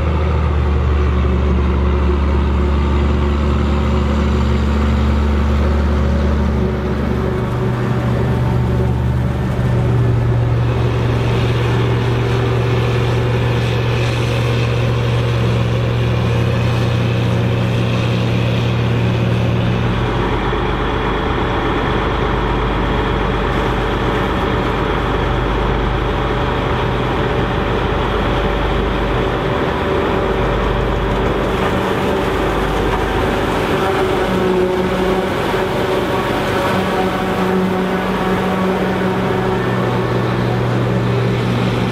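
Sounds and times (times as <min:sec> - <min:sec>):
diesel engines running under load: 0:00.0 - 0:41.9.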